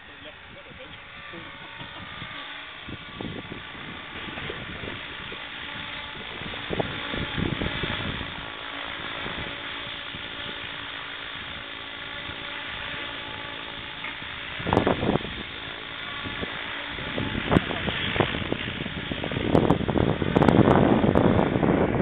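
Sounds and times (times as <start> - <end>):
rc helicopter motor and rotor whirr: 0.0 - 22.0
wind buffeting microphone: 0.4 - 22.0.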